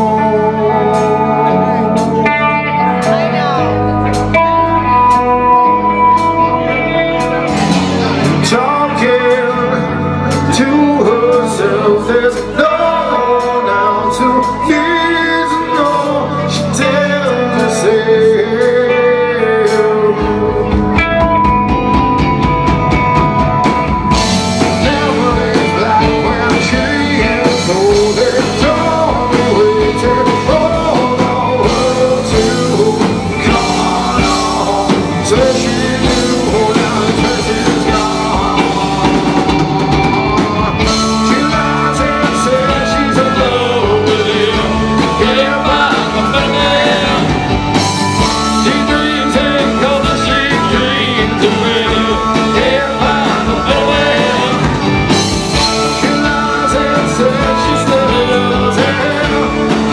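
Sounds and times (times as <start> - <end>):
bass guitar: 0.0 - 59.9
drums: 0.0 - 59.9
electric guitars: 0.0 - 59.9
person singing: 0.0 - 59.9.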